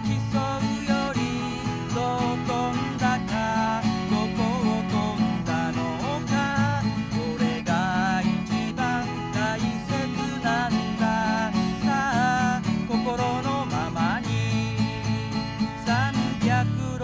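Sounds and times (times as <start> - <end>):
acoustic guitar strumming: 0.0 - 17.0
person singing: 0.0 - 17.0.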